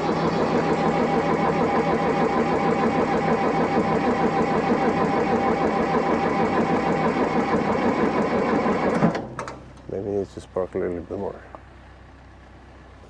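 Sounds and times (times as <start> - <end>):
tractor engine cranking on starter: 0.0 - 10.5.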